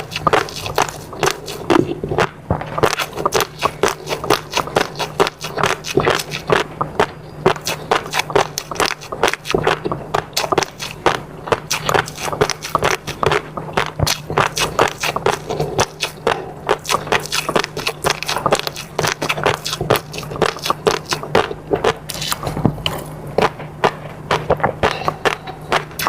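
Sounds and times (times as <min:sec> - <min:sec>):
wet chewing mouth sounds: 0:00.0 - 0:26.0.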